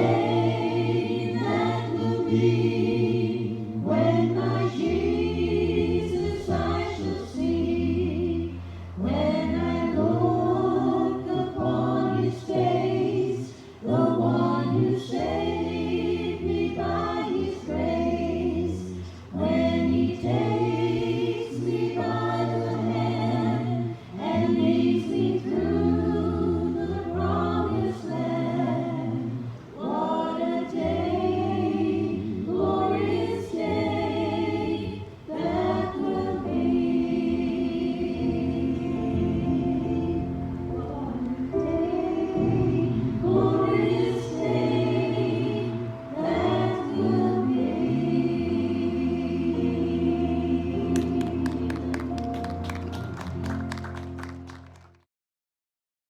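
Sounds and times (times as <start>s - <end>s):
group singing a hymn: 0.0s - 53.5s.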